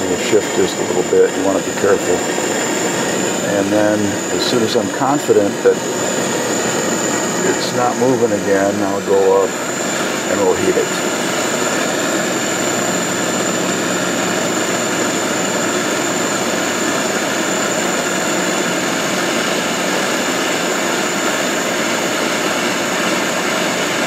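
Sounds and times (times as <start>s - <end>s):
gas torch flame rushing: 0.0s - 24.0s.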